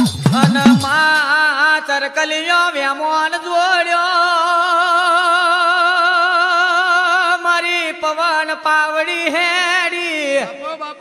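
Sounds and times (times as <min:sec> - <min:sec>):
person singing with vibrato: 0:00.0 - 0:11.0.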